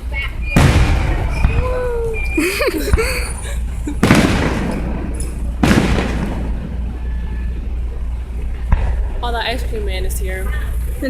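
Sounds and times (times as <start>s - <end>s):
fireworks bursting with crackling tail: 0.0s - 11.0s.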